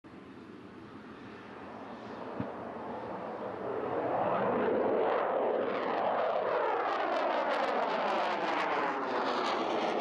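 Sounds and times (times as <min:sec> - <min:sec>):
jet fighters flying over: 0:00.1 - 0:10.0.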